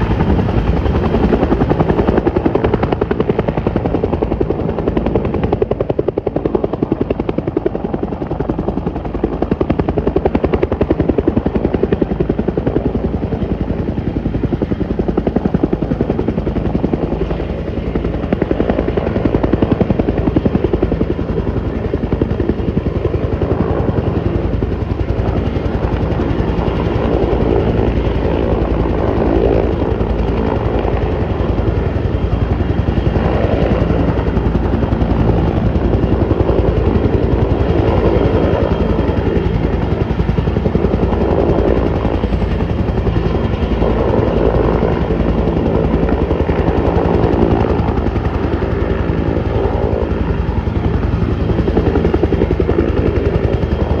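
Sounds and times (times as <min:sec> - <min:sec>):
helicopter rotor beating: 0:00.0 - 0:54.0.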